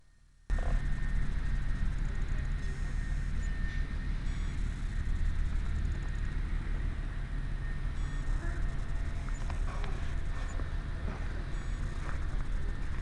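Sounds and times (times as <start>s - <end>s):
diesel engine rumbling: 0.5s - 13.0s.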